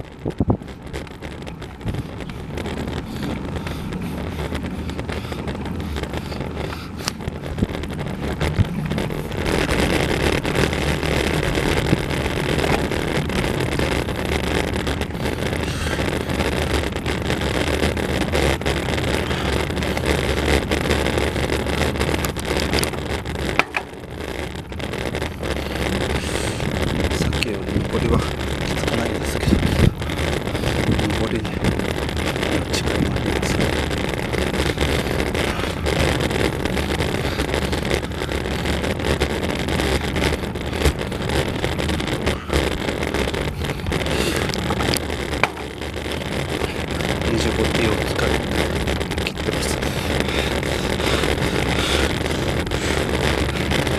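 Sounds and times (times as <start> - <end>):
low vehicle hum: 0.0 - 53.9
wind and road noise: 0.0 - 53.9.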